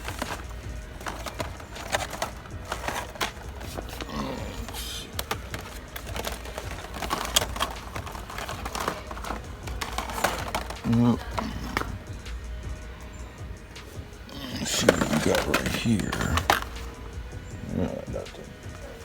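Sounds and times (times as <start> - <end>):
plastic packaging clicks and taps: 0.0 - 12.8, 13.8 - 17.4.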